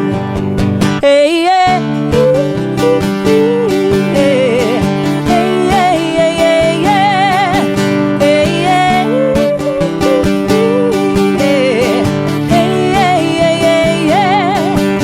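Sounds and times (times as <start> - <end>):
guitar accompaniment: 0.0 - 15.0.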